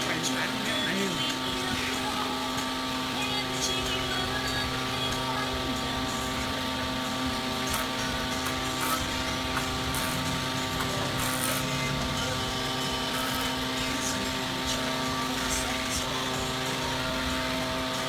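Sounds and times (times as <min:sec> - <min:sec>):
jointer humming: 0:00.0 - 0:18.0.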